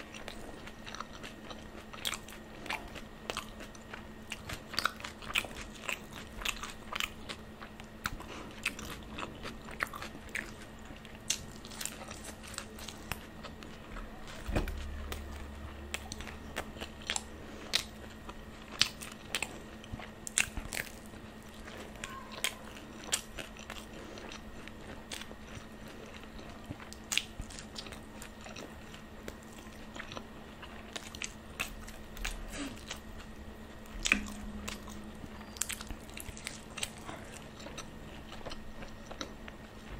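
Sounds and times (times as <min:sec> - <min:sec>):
crisp crunching while eating: 0:00.0 - 0:39.9
person chewing: 0:00.0 - 0:39.9.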